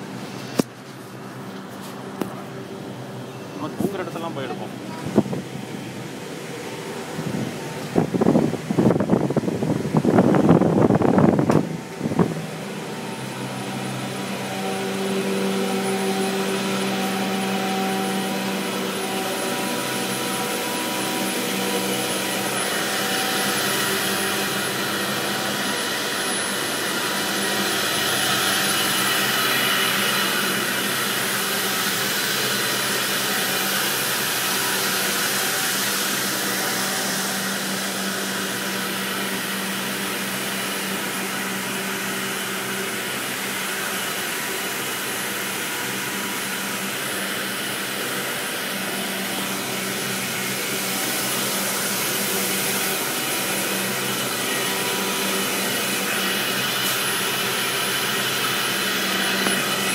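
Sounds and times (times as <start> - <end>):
steady machine tones: 0.0 - 59.9.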